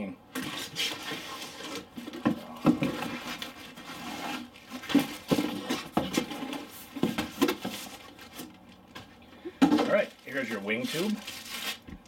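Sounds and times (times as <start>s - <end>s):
cardboard scraping and rustling: 0.3s - 8.6s, 9.9s - 12.0s.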